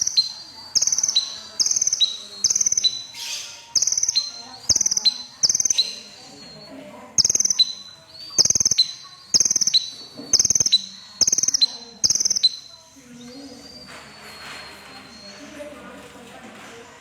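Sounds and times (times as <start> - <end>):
bird singing chattering trills: 0.0 - 15.5.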